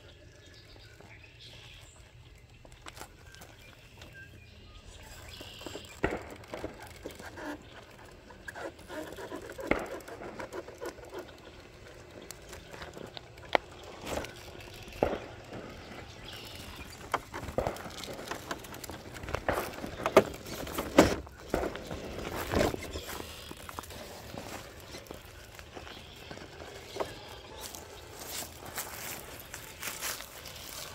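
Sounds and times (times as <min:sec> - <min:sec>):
toy truck crunching over rocks: 0:00.1 - 0:30.9.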